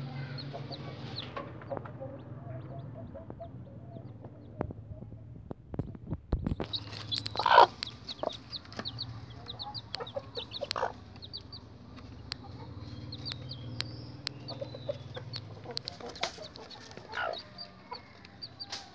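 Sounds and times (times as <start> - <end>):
hen clucking: 0.0 - 5.9, 6.5 - 18.9
chicks peeping: 0.0 - 18.9.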